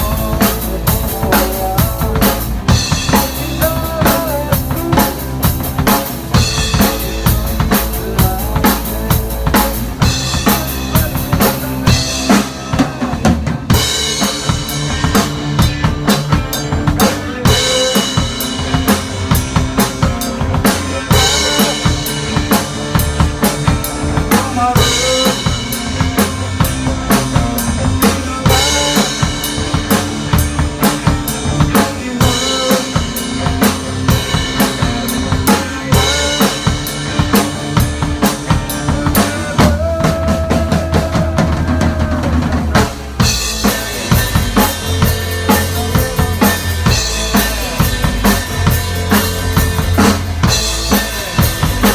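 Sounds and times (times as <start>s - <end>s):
drum kit beat: 0.0s - 51.9s.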